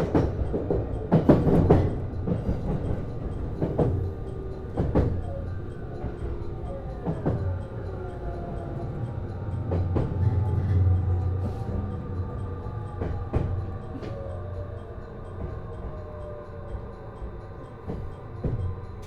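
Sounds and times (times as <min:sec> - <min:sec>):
railcar interior hum: 0:00.0 - 0:19.0.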